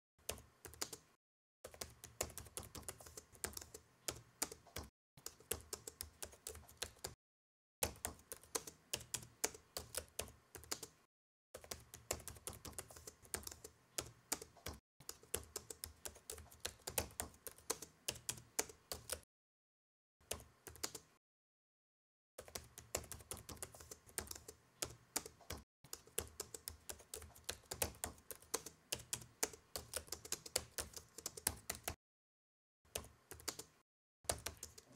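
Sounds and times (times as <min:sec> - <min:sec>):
typing on laptop keyboard: 0:00.2 - 0:07.2, 0:07.8 - 0:19.3, 0:20.2 - 0:21.2, 0:22.4 - 0:32.0, 0:32.9 - 0:34.9.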